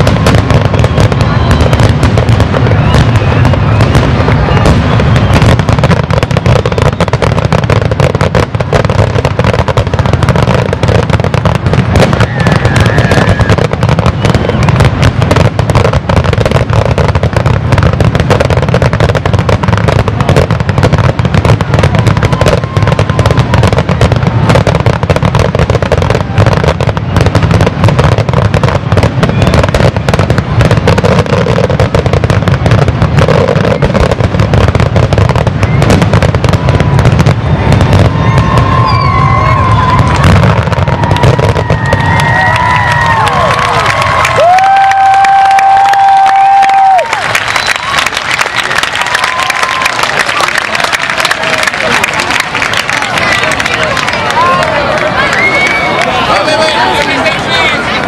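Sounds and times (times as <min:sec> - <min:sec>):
fireworks booming and crackling: 0:00.0 - 0:58.0.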